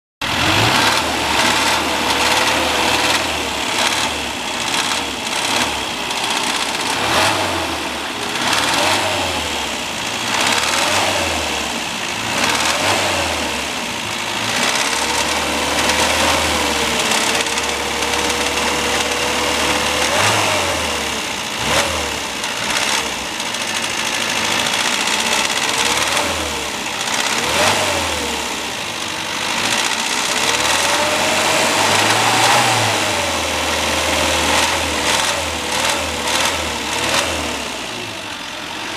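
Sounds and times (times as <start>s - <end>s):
car engine revving: 0.2s - 38.9s
engine clattering: 0.2s - 38.9s.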